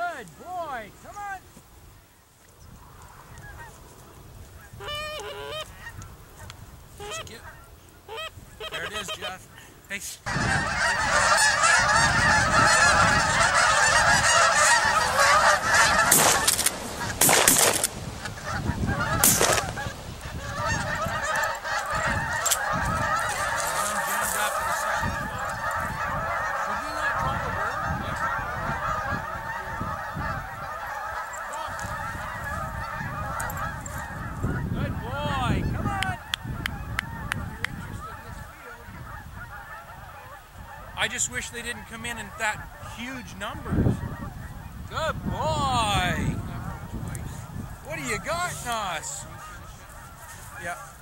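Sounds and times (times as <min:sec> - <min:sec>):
geese honking: 0:02.8 - 0:51.0.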